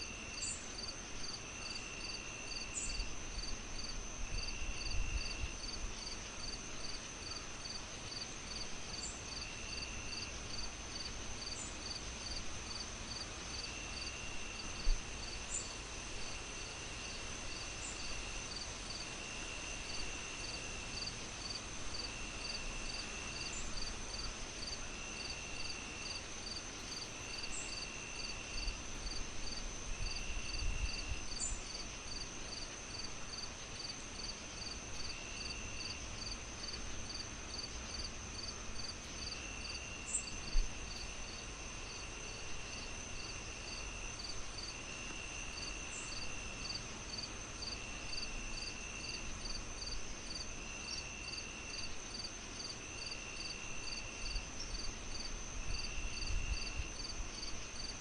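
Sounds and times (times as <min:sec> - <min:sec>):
night insects chirping: 0:00.0 - 0:58.0.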